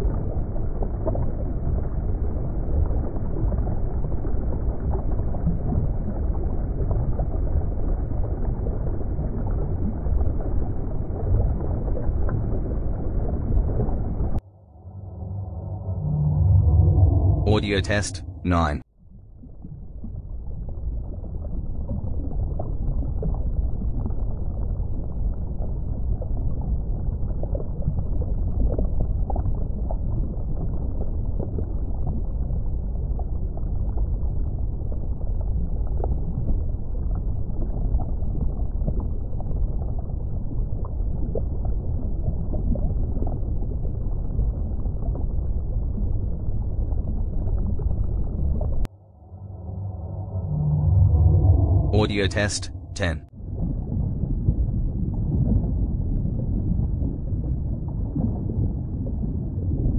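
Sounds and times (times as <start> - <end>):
muffled underwater water wash: 0.0 - 59.9.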